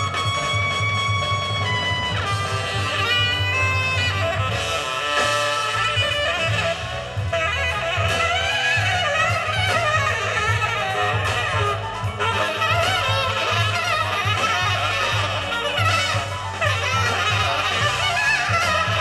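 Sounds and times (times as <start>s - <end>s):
jazz record on loudspeakers: 0.0s - 19.0s.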